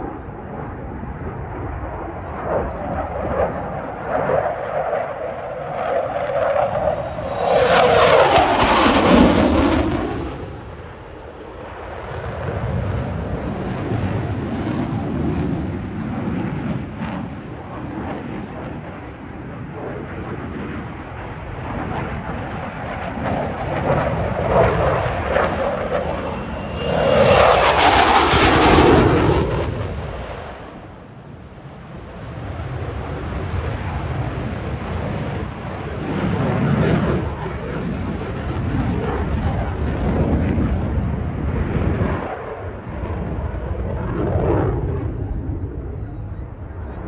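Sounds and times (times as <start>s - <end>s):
fighter jet low pass: 0.0s - 47.0s.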